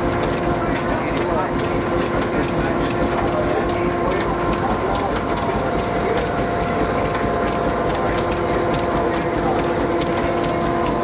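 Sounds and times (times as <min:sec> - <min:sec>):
cotton gin whirring and humming: 0:00.0 - 0:11.0
sharp clattering clicks: 0:00.2 - 0:11.0.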